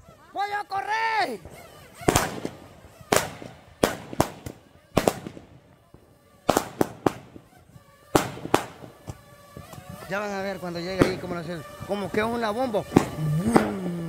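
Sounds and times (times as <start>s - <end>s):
firecrackers banging: 0.9s - 14.0s.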